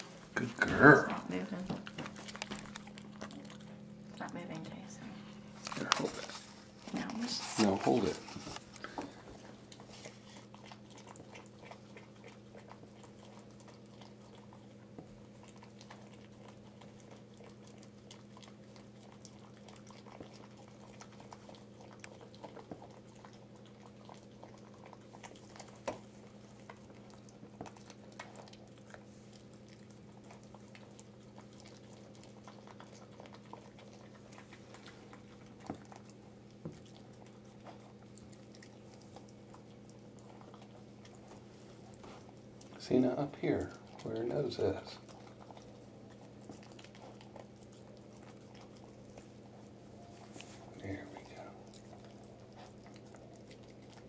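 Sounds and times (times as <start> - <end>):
steady low hum: 0.0 - 54.0
dog licking wetly: 7.4 - 54.0.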